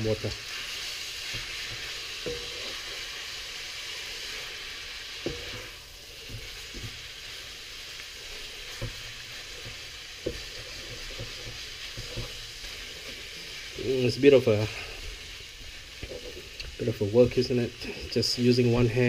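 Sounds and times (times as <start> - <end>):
noodles sizzling in a wok: 0.0 - 19.0
spatula stirring and tossing: 0.0 - 19.0.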